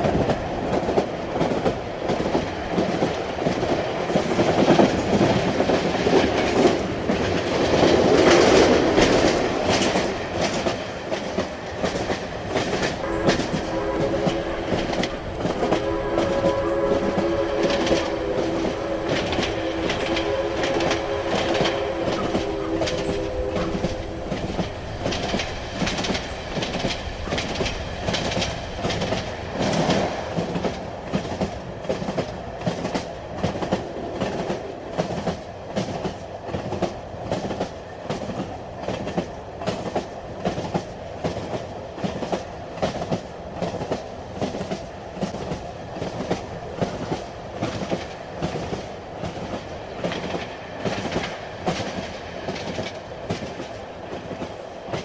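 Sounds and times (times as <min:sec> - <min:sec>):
train rumble: 0:00.0 - 0:55.0
train wheels clicking over rail joints: 0:00.0 - 0:55.0.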